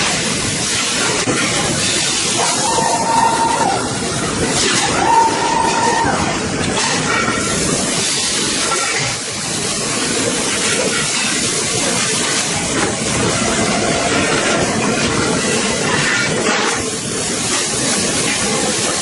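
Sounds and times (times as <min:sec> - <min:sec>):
factory machinery hiss: 0:00.0 - 0:19.0.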